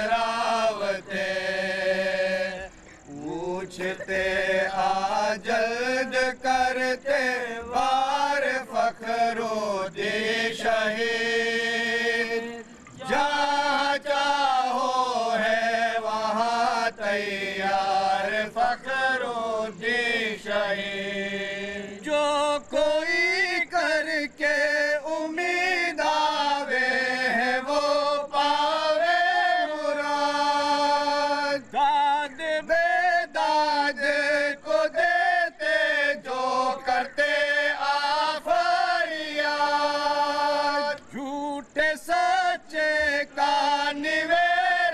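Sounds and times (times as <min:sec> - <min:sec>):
men chanting together: 0:00.0 - 0:44.9.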